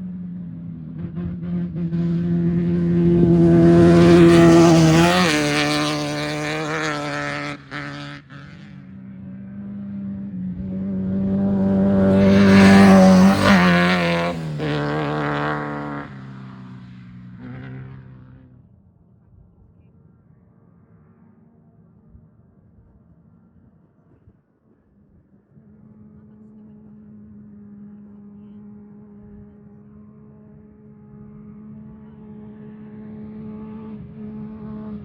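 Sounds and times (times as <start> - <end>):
off-road vehicles passing at speed: 0.0 - 24.1, 25.0 - 35.0.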